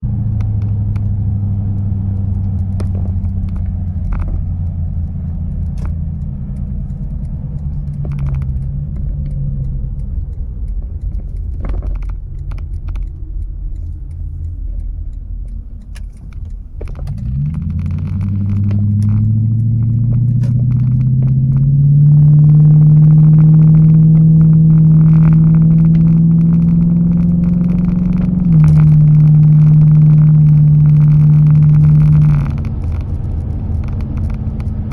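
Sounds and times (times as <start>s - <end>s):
car exhaust drone from cabin: 0.0s - 34.9s.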